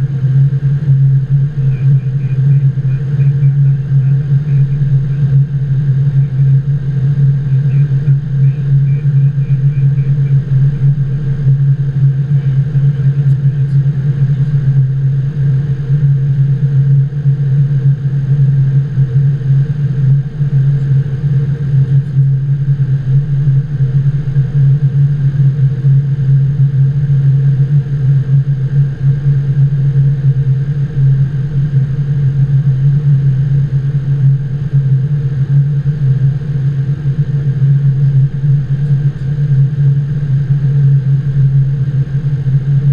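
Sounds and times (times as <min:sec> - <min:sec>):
cockpit airflow and engine drone: 0:00.0 - 0:42.9
faint steady tones: 0:00.0 - 0:42.9.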